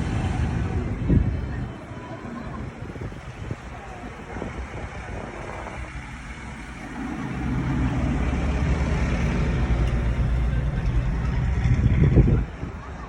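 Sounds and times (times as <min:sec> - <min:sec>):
rumbling traffic: 0:00.0 - 0:13.0
tractor engine running: 0:00.0 - 0:13.0.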